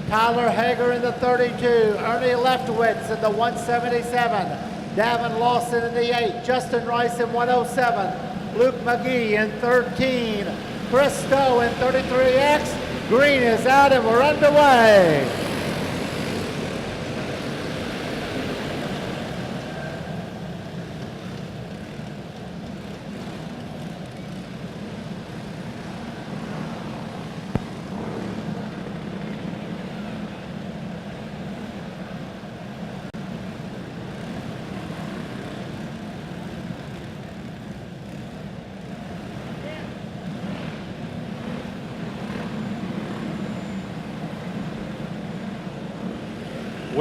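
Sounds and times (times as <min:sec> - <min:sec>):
racing karts engines droning: 0:00.0 - 0:47.0.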